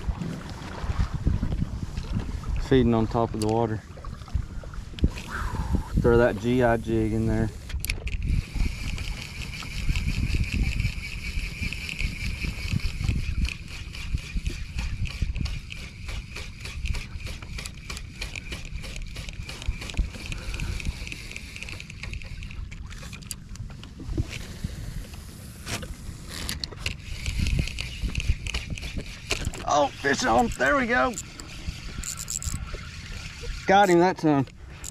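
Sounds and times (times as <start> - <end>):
low rumble of wind and water: 0.0 - 34.9
fishing reel whirring: 5.1 - 23.4, 24.6 - 34.9.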